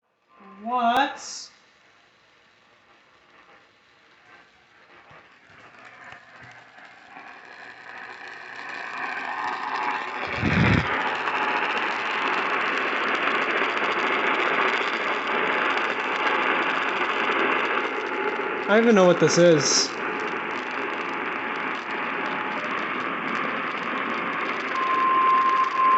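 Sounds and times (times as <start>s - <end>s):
radio static hiss: 0.3s - 25.9s
faint steady tones: 1.4s - 25.9s.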